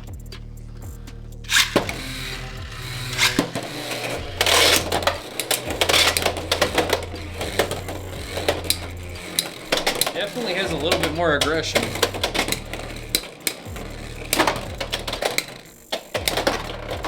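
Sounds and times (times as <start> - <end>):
spinning tops clicking and clattering: 1.5 - 17.0
spinning tops launched: 1.5 - 17.0.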